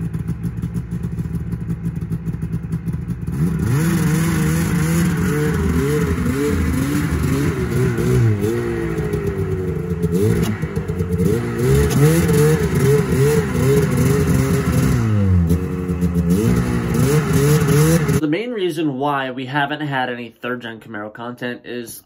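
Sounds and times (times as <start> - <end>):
vehicle engine revving: 0.0 - 18.2.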